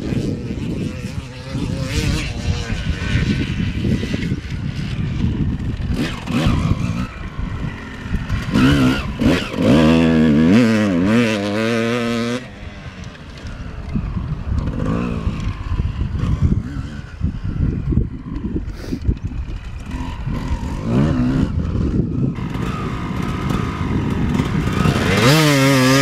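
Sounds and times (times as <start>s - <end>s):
motocross bike engine revving: 0.0s - 26.0s.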